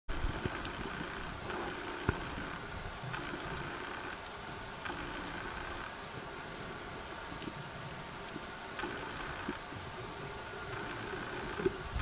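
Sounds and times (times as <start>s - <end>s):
faint clicks and crackles: 0.1s - 12.0s
faint hum: 0.1s - 12.0s.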